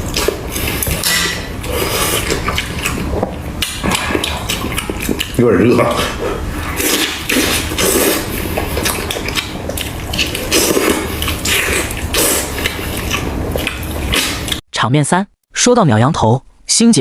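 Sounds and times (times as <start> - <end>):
wet chewing and tearing meat: 0.0 - 14.6.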